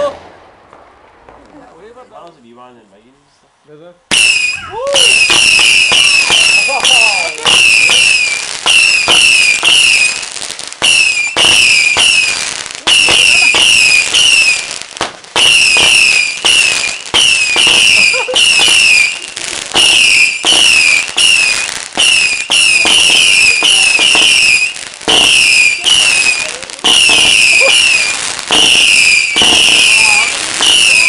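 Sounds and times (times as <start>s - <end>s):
fireworks cracking: 0.0s - 2.6s, 4.1s - 31.0s
fireworks whistling: 4.1s - 31.0s.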